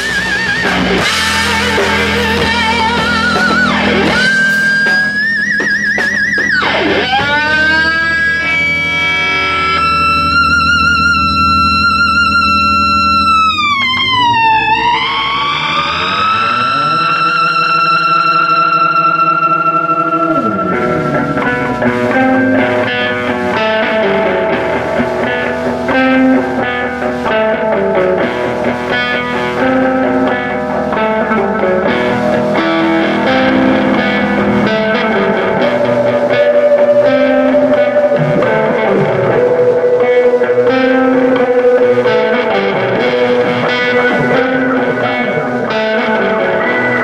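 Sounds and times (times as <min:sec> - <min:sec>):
electric guitar picking: 0:00.0 - 0:47.0
rock band playing: 0:00.0 - 0:47.0.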